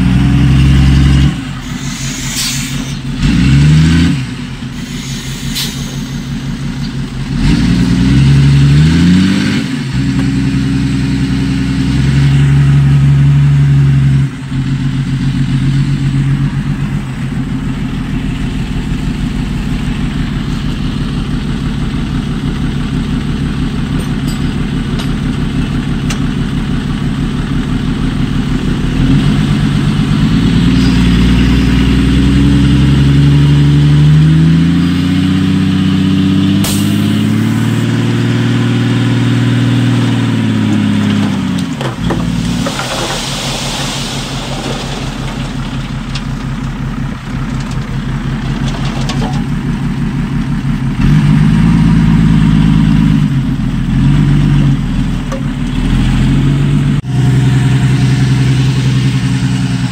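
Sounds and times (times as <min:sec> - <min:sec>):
diesel machinery engine revving: 0:00.0 - 0:59.9.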